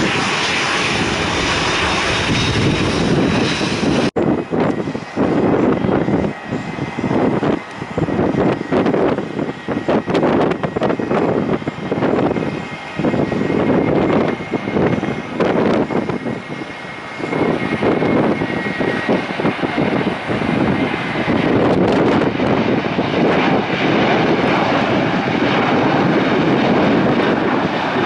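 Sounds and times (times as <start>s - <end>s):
aircraft engine high whine: 0.0s - 28.0s
gusty wind buffeting microphone: 0.0s - 28.0s.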